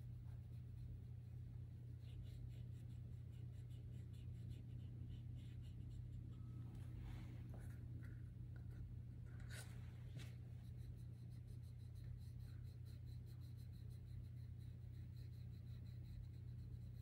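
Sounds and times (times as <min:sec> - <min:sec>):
steady low hum: 0:00.0 - 0:17.0
scratchy drawing strokes on paper: 0:00.2 - 0:06.2, 0:07.5 - 0:17.0.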